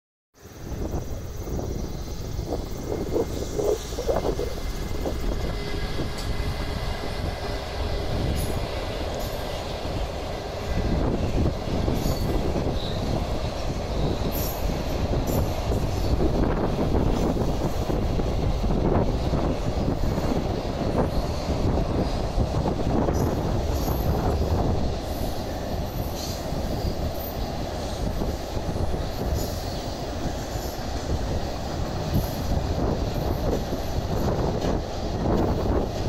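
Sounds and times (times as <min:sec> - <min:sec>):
train wheels rumbling on bridge: 0:00.4 - 0:36.0.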